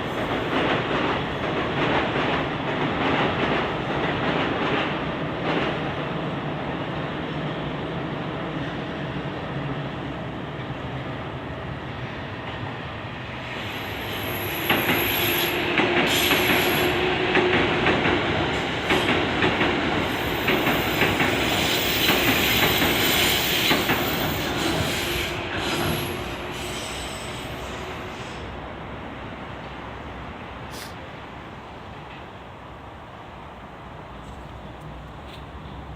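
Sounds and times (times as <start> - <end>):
electric train passing: 0.0 - 35.9.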